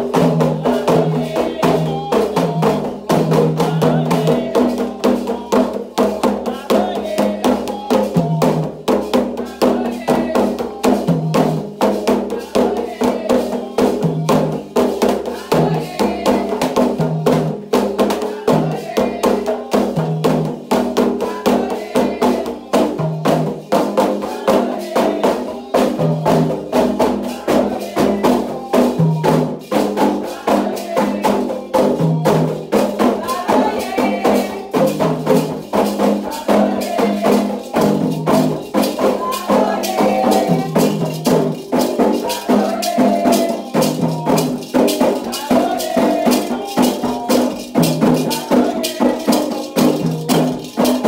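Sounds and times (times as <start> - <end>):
hand drums beating fast rhythm: 0.0 - 51.0
voices singing: 0.0 - 51.0.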